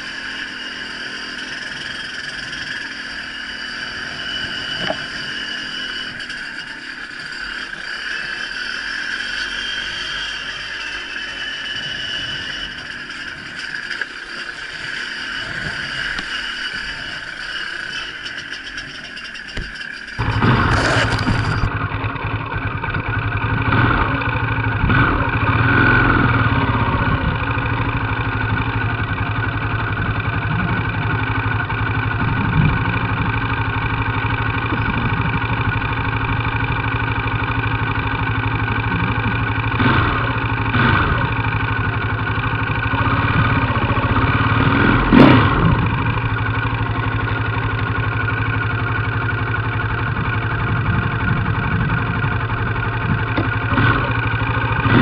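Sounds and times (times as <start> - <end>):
motorcycle engines idling and revving: 0.0 - 55.0.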